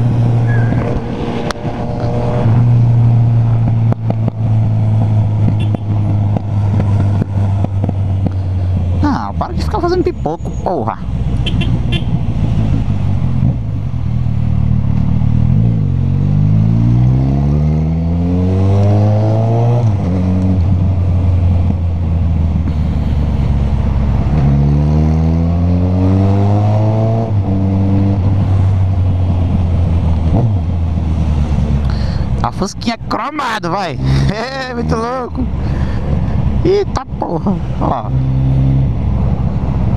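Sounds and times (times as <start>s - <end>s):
motorcycle engine accelerating: 0.0s - 32.5s, 33.7s - 39.9s.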